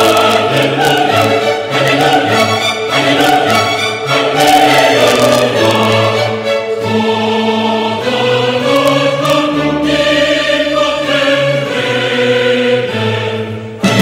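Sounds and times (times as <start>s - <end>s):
choir with orchestra: 0.0s - 14.0s.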